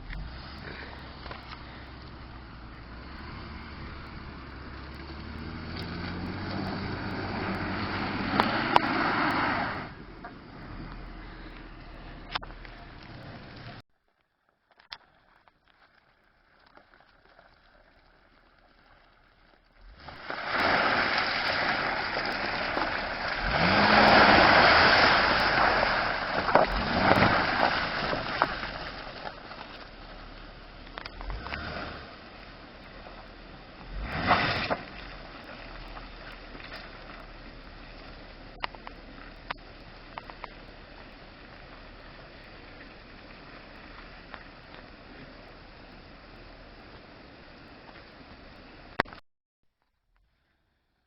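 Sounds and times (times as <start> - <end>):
car splashing through mud and water: 0.0 - 13.8, 15.8 - 49.0.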